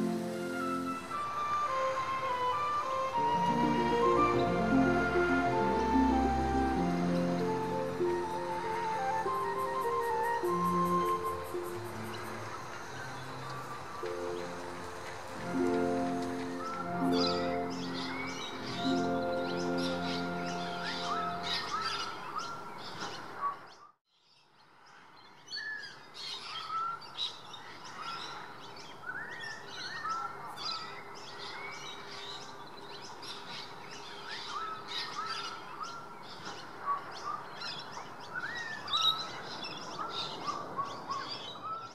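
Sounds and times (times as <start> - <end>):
birds chirping: 0.0 - 24.5, 25.2 - 41.9.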